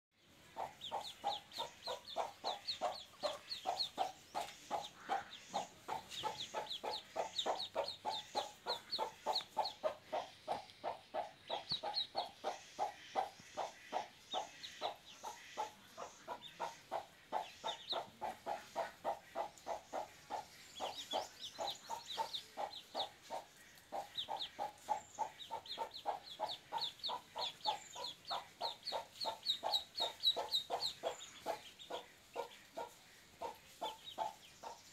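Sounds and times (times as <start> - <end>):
ducklings peeping: 0.2 - 34.9
low clucking calls: 0.4 - 34.9.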